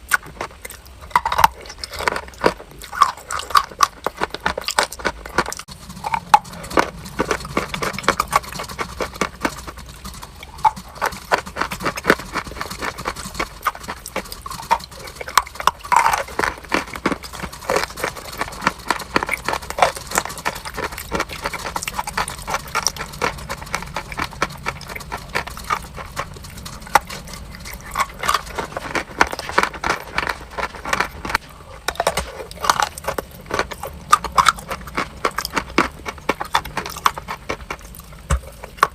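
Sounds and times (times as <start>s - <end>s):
person chewing crunchy chalk: 0.0s - 38.9s.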